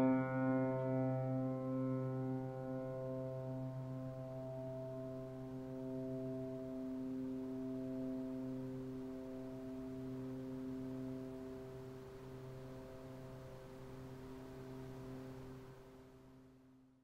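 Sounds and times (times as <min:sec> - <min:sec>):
low musical drone: 0:00.0 - 0:15.9.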